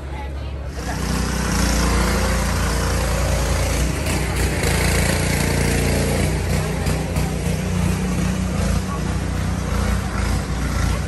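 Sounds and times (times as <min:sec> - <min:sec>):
street noise: 0:00.0 - 0:11.0
vehicle engine running: 0:00.0 - 0:11.0.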